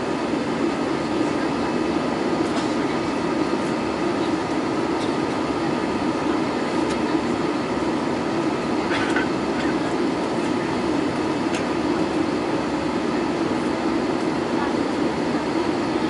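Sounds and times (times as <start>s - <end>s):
constant low hum: 0.0s - 16.0s
jet engine cabin drone: 0.0s - 16.0s.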